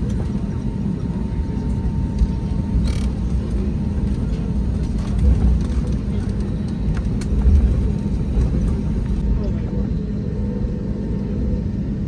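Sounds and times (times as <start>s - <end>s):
low rumble of wheels and engines: 0.0s - 12.0s.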